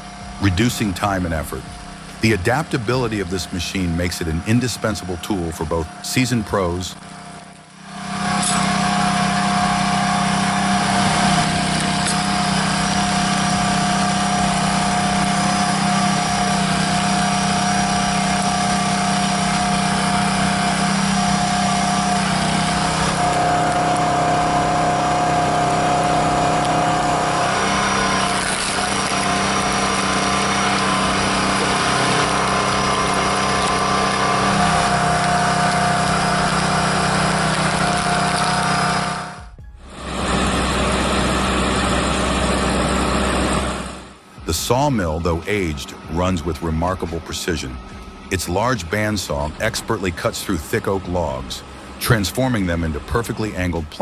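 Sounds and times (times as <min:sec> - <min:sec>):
machine motor droning: 0:00.0 - 0:54.0.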